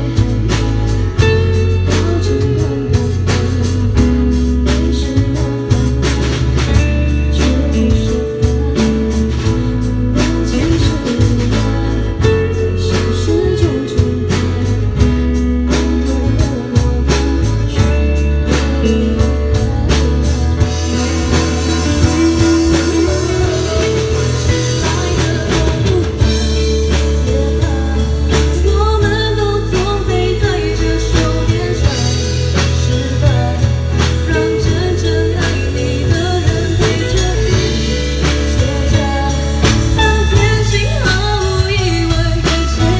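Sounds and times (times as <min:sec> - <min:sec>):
bass guitar: 0:00.0 - 0:42.9
drum kit: 0:00.0 - 0:42.9
electric guitar: 0:00.0 - 0:42.9
person singing: 0:00.0 - 0:42.9.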